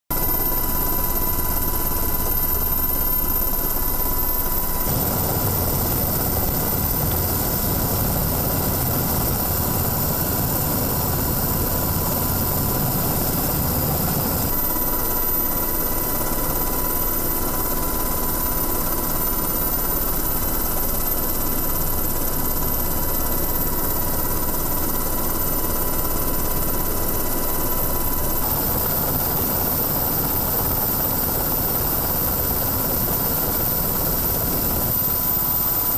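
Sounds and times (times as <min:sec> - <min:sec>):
thin high whine: 0:00.1 - 0:23.5, 0:26.0 - 0:35.9
helicopter rotor and turbine drone: 0:00.1 - 0:35.9.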